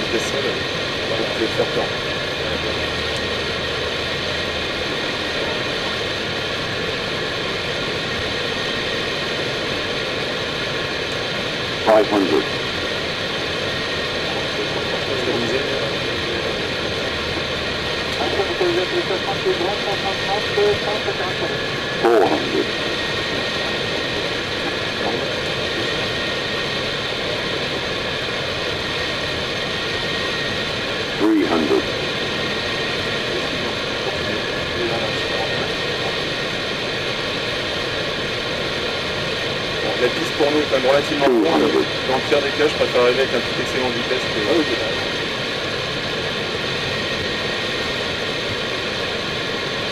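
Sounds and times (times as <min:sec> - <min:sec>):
airflow and jet engines rushing: 0:00.0 - 0:49.9
faint steady tones: 0:00.0 - 0:49.9.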